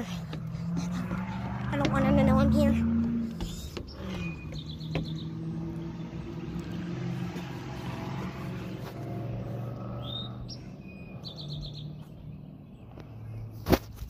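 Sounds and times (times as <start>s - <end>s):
low engine-like hum: 0.0s - 13.6s.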